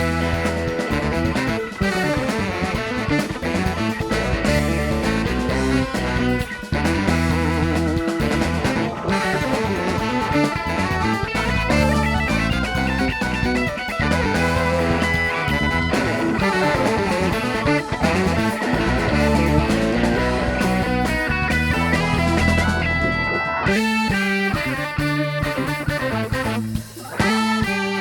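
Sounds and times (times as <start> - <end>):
bass guitar: 0.0 - 28.0
electric guitar playing: 0.0 - 28.0.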